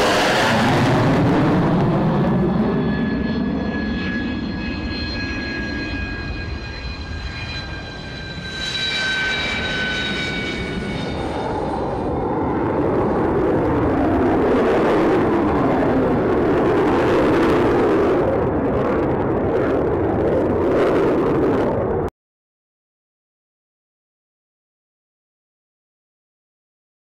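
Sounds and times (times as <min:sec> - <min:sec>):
high turbine whine: 0:00.0 - 0:22.1
jet engines roaring: 0:00.0 - 0:22.1.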